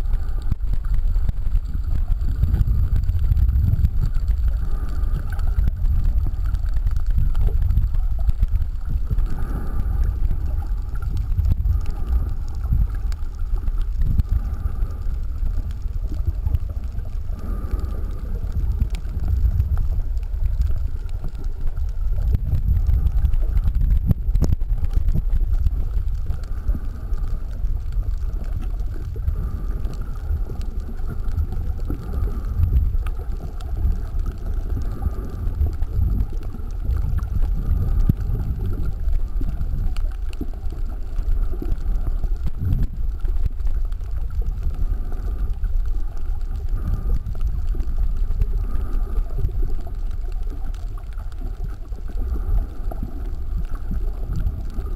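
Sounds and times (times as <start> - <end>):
muffled underwater rumble: 0.0 - 54.9.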